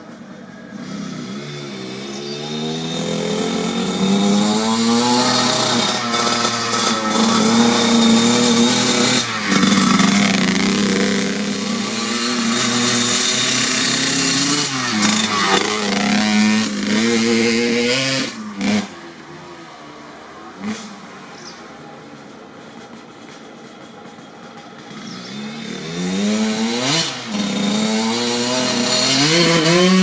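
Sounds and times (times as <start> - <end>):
two-stroke dirt bike engine revving: 0.6 - 19.4, 20.1 - 21.1, 24.1 - 30.0.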